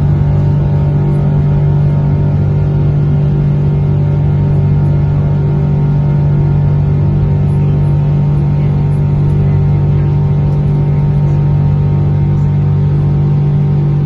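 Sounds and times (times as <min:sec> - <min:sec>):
loud low drone: 0:00.0 - 0:14.0.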